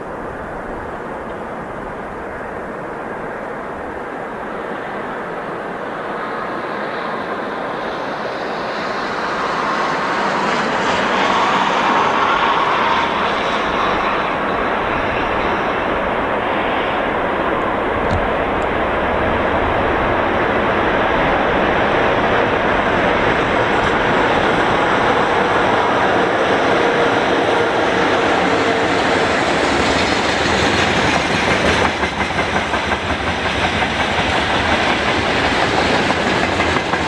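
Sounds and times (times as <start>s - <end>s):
electric locomotive hauling freight train: 0.0s - 37.0s.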